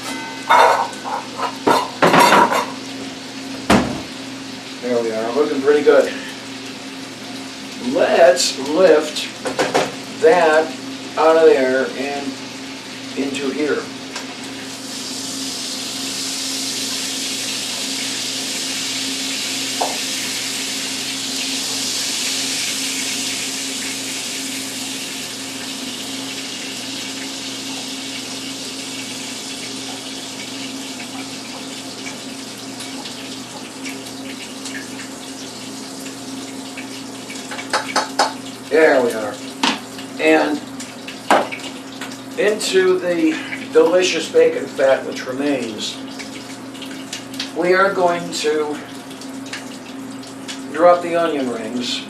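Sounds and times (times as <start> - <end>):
fat sizzling in a frying pan: 0.0 - 50.8.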